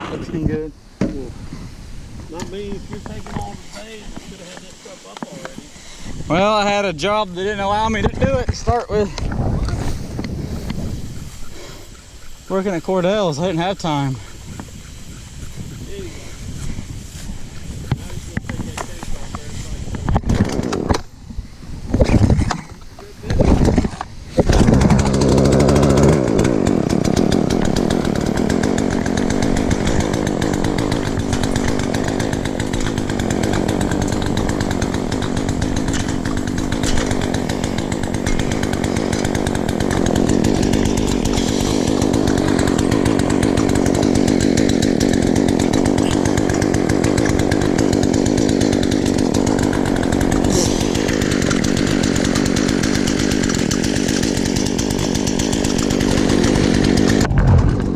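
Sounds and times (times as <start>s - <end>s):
chainsaw cutting wood: 2.2s - 15.9s, 16.6s - 21.1s, 21.9s - 57.9s.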